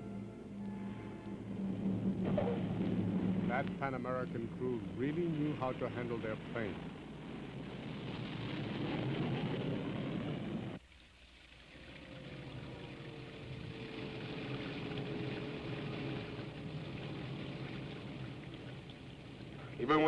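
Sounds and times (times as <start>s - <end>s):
airliner piston engines roaring: 0.0s - 10.8s, 12.0s - 20.0s
faint steady whine: 0.0s - 20.0s
rain: 0.0s - 20.0s.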